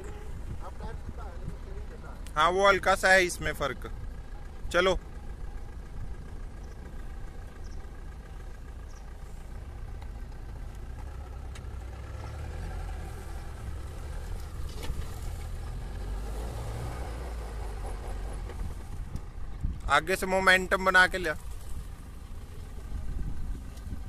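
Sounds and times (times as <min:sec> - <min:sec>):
diesel engine rumble: 0:00.0 - 0:24.0.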